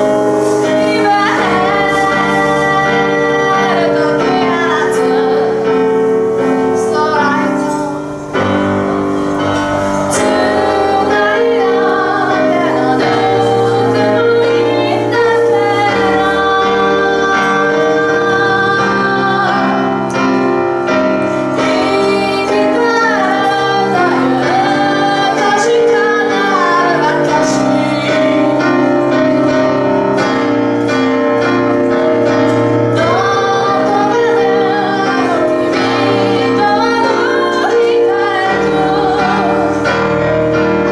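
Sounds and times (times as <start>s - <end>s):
woman singing slow melody: 0.0s - 20.6s, 21.2s - 30.5s, 31.4s - 40.9s
grand piano chords: 0.0s - 40.9s.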